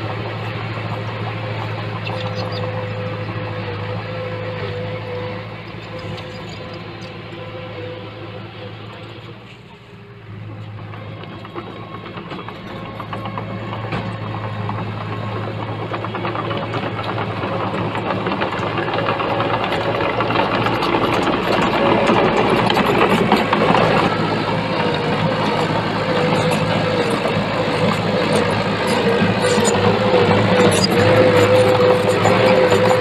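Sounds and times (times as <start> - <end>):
heavy machinery diesel engine: 0.0 - 33.0.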